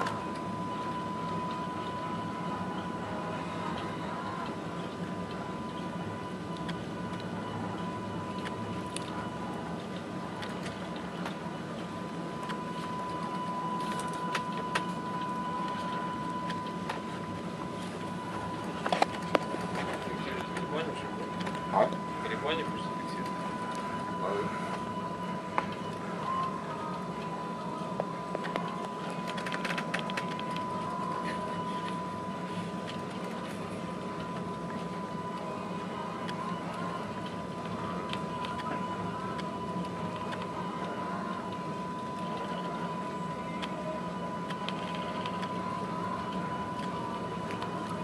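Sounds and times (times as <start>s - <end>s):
ship engines droning: 0.0s - 48.0s
thin steady high tone: 0.0s - 48.0s.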